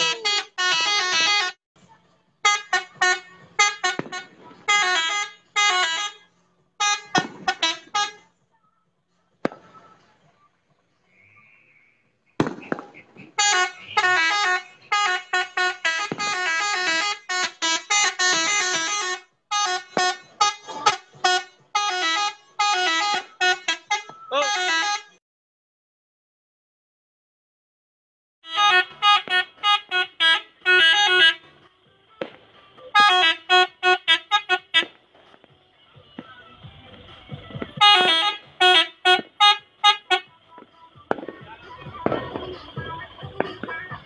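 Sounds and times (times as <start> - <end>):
musical truck air horns: 0.0 - 8.4, 12.3 - 25.2, 28.4 - 44.0.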